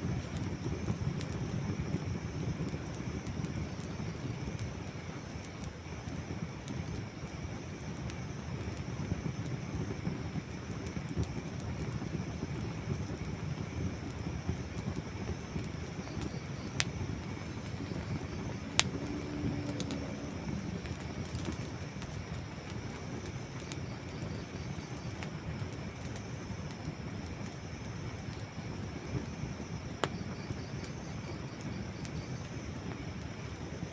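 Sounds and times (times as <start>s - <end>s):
campfire burning: 0.0s - 33.9s
fire crackling and popping: 0.0s - 33.9s.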